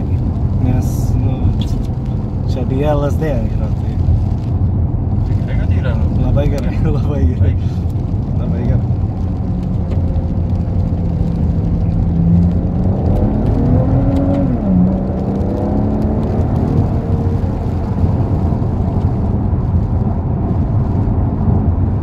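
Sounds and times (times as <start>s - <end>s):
car engine revving: 0.0s - 22.0s
road rumble: 0.0s - 22.0s.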